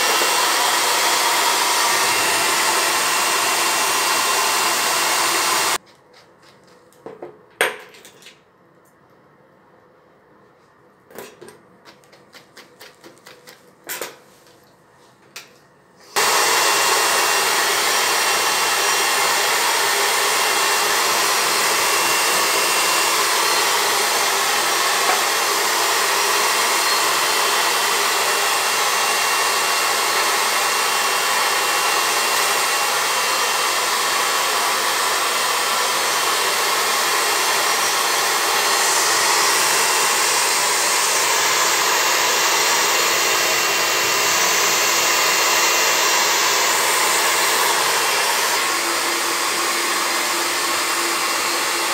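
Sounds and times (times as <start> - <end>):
hair dryer blowing: 0.0 - 5.8, 16.0 - 51.9.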